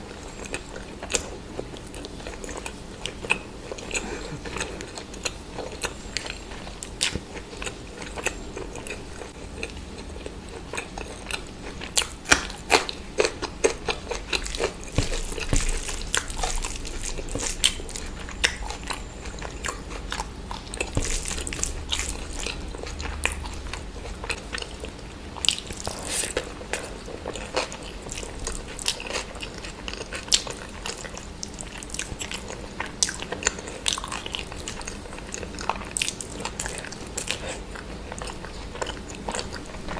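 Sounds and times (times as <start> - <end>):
wet chewing and lip-smacking: 0.1 - 39.9.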